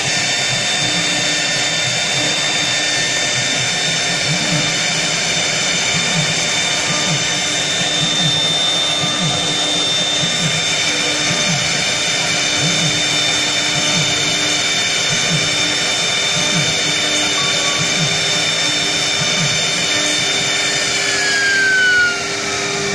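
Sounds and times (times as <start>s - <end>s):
spindle whining: 0.0s - 22.9s.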